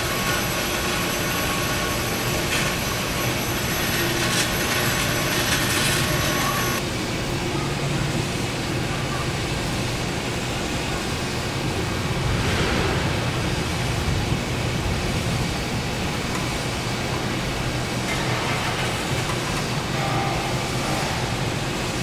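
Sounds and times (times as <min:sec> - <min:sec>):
factory machinery hum and hiss: 0:00.0 - 0:22.0.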